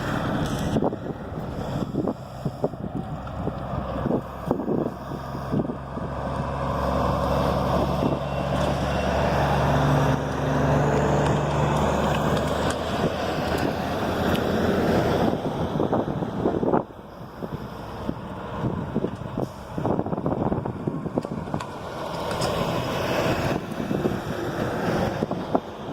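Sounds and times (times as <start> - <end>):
heavy truck engine running: 0.0 - 25.9
road and wind noise: 0.0 - 25.9.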